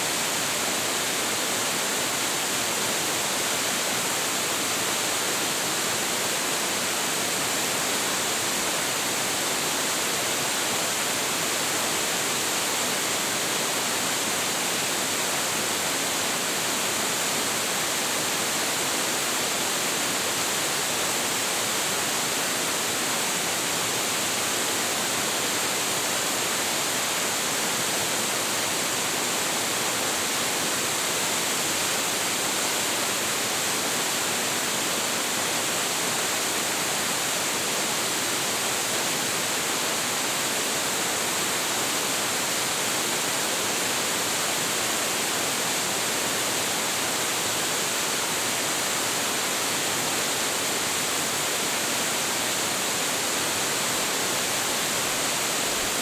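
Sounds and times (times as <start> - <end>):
large waterfall rushing: 0.0 - 56.0.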